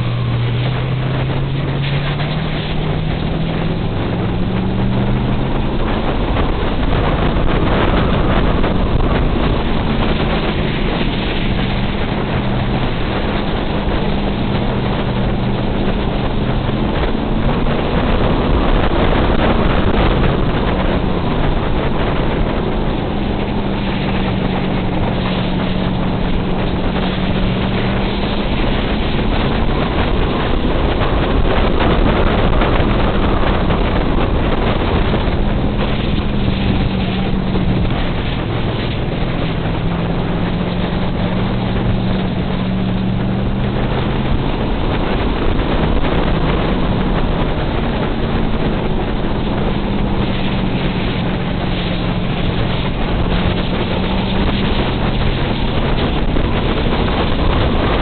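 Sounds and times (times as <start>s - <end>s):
race car engine running: 0.0s - 58.0s
wind noise on microphone: 0.0s - 58.0s.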